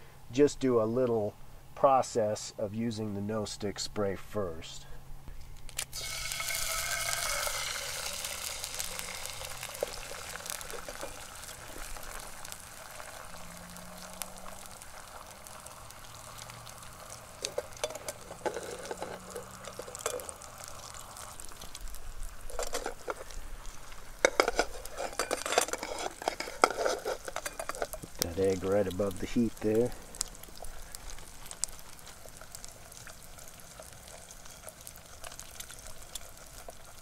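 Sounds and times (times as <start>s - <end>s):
pops and crackles: 5.5s - 37.0s
egg sizzling in butter: 5.6s - 37.0s.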